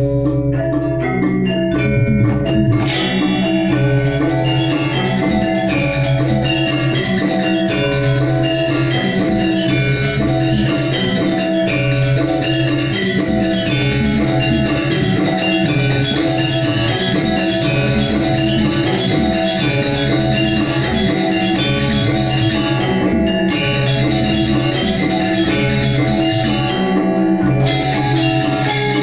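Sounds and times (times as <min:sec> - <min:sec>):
gamelan ensemble playing: 0:00.0 - 0:29.0
bright metallic stroke: 0:02.8 - 0:29.0.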